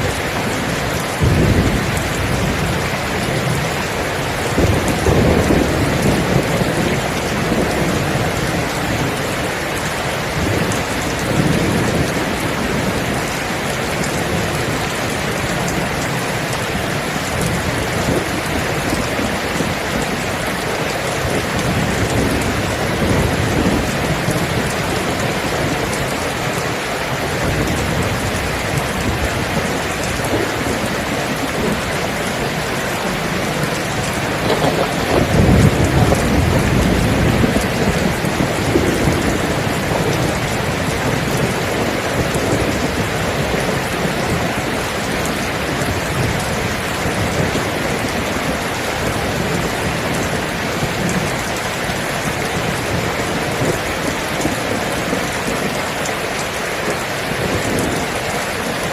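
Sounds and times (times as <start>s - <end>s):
heavy rain falling: 0.0s - 58.9s
thunder rumbling: 0.0s - 58.9s.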